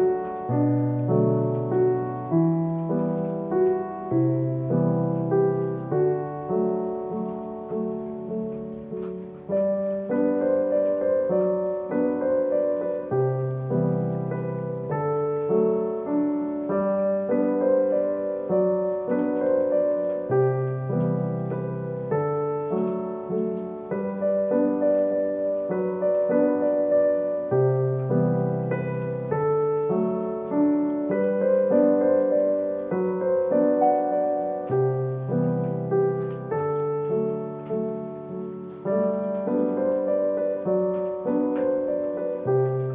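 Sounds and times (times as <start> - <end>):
gentle piano music: 0.0 - 42.9.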